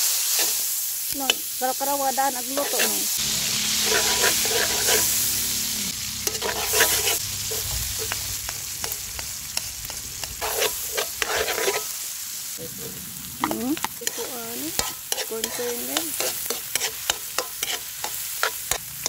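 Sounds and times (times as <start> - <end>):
vegetables sizzling in oil: 0.0 - 19.0
metal spatula scraping wok: 0.2 - 0.7, 2.3 - 19.0.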